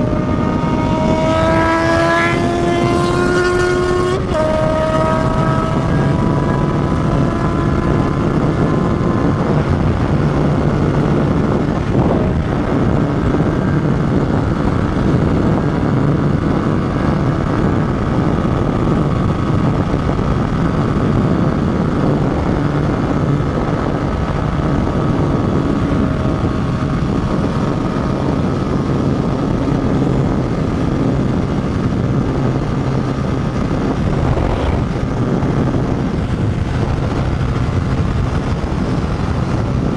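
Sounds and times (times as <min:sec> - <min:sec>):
motorcycle engine cruising: 0:00.0 - 0:39.9
rush of noise: 0:00.0 - 0:39.9.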